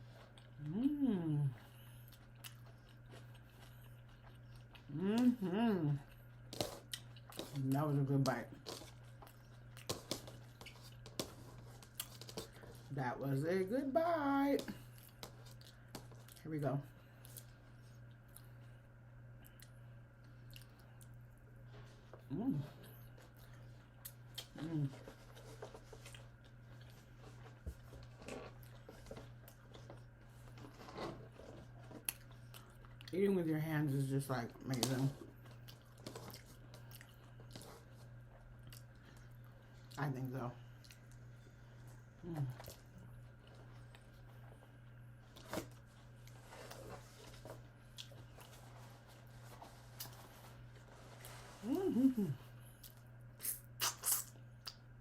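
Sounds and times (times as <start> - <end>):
person chewing: 0.0 - 7.7, 8.6 - 12.8, 14.8 - 16.4, 19.4 - 21.4, 22.0 - 33.2, 35.3 - 40.0, 40.6 - 54.9
steady low hum: 0.0 - 55.0.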